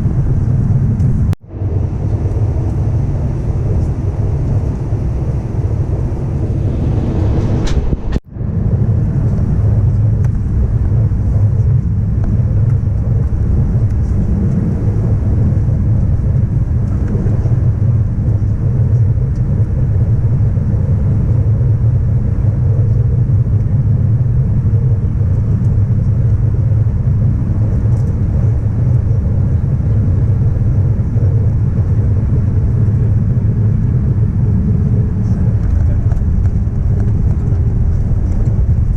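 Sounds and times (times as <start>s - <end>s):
airplane cabin low rumble: 0.0s - 38.9s.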